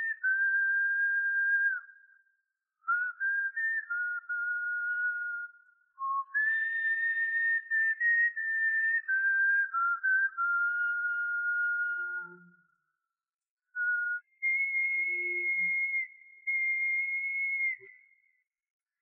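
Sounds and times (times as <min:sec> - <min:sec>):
person whistling a tune: 0:00.0 - 0:02.2, 0:02.8 - 0:12.7, 0:13.7 - 0:18.4.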